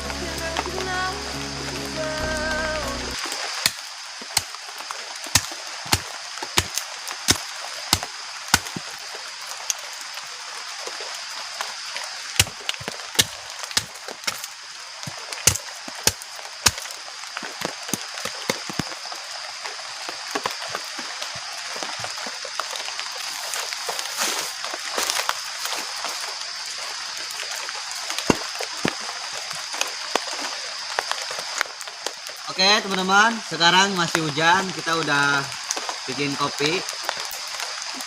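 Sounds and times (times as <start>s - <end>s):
rain hissing: 0.0s - 38.0s.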